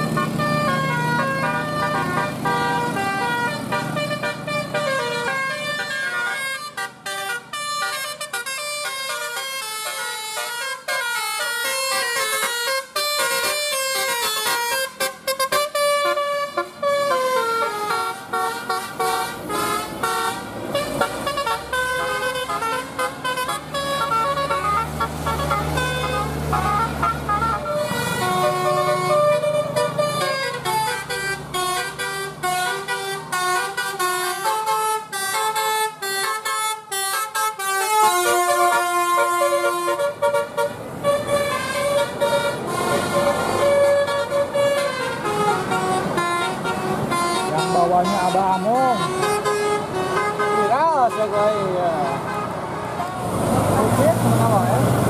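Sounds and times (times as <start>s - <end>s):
air horns playing a melody: 0.0s - 54.2s
bus engine rumbling: 0.0s - 55.0s.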